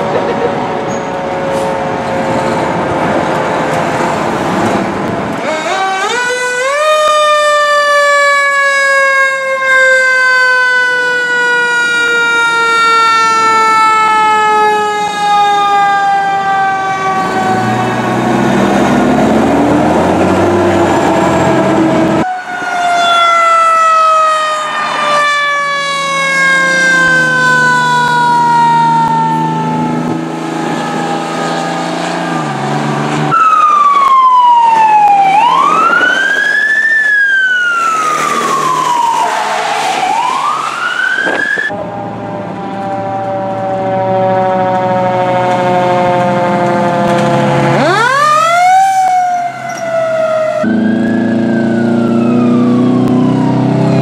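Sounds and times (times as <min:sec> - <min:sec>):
mechanical siren winding down: 0:05.4 - 0:44.1, 0:44.7 - 0:54.0
electronic siren wailing: 0:05.4 - 0:54.0.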